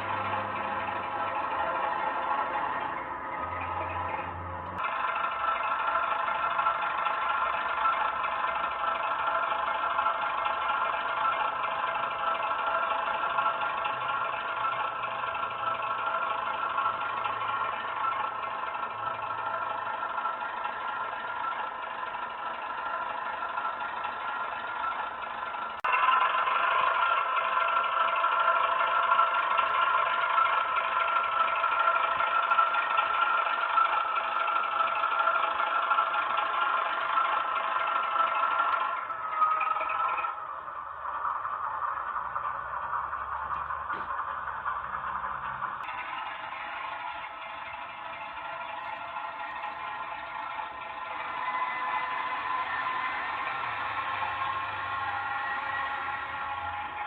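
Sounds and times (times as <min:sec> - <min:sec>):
diesel engine through small speaker: 0:00.0 - 0:57.0.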